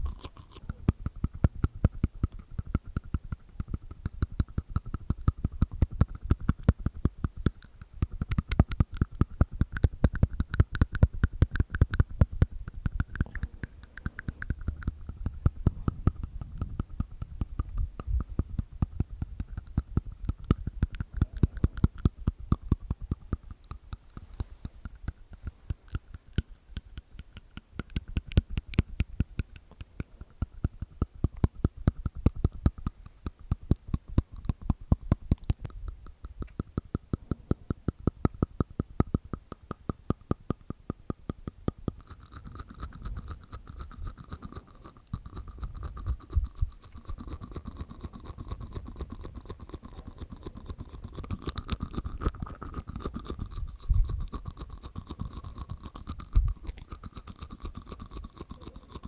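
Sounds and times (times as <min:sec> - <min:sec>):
tongue and teeth clicks: 0:00.0 - 0:59.0.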